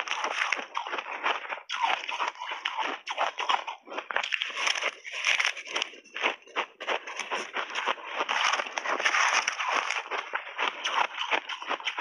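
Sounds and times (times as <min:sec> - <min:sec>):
ice crunching in mouth: 0:00.0 - 0:12.0.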